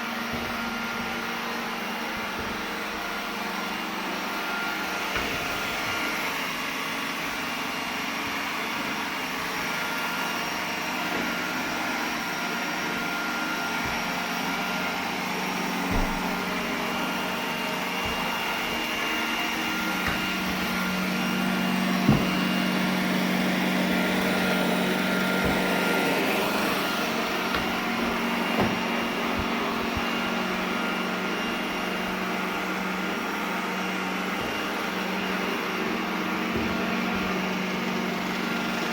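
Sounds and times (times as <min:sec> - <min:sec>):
robot vacuum humming: 0:00.0 - 0:38.9.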